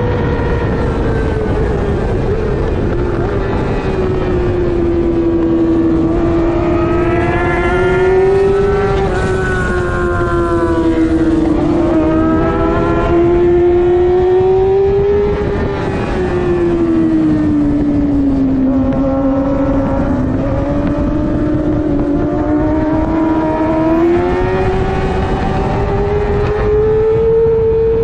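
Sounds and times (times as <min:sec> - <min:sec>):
motorcycle engine revving high: 0:00.0 - 0:28.0.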